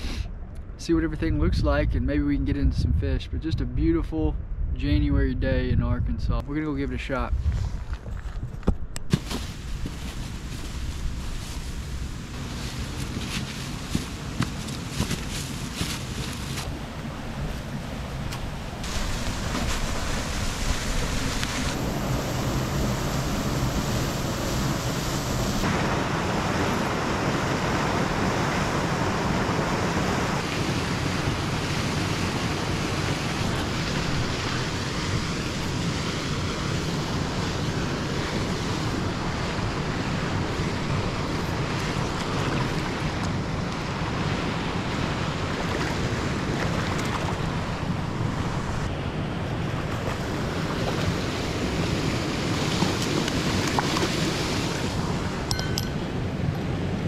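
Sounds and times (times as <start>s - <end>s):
wind buffeting microphone: 0.6s - 57.0s
river current rushing: 9.2s - 57.0s.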